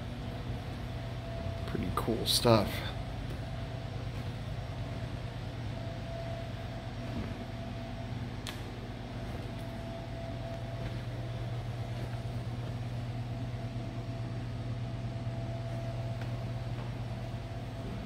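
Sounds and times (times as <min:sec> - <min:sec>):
low mechanical hum: 0:00.0 - 0:18.0
thin steady whine: 0:00.0 - 0:18.0.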